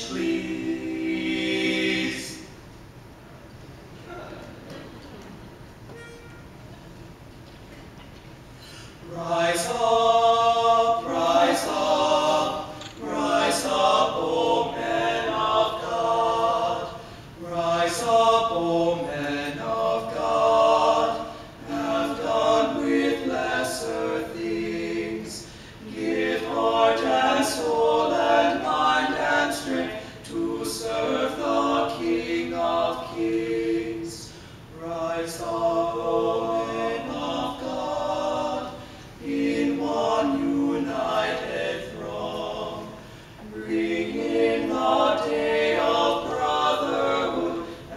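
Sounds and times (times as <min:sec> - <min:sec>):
male voices singing in harmony: 0:09.0 - 0:47.9.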